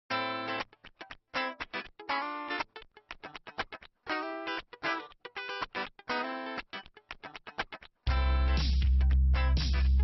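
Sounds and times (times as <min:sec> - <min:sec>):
guitar chord and plucked notes: 0:00.1 - 0:10.0.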